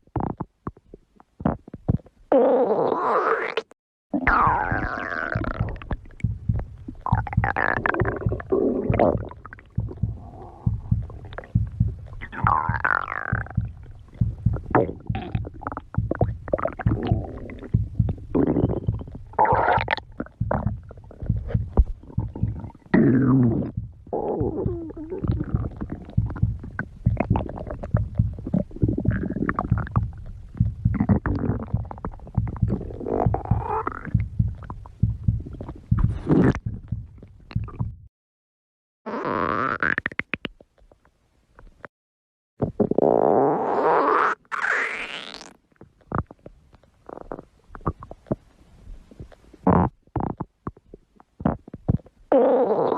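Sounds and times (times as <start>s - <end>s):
stomach squeals: 0.0s - 38.0s, 42.6s - 48.4s, 49.2s - 52.9s
stomach growling and gurgling: 0.0s - 38.1s, 42.6s - 52.9s.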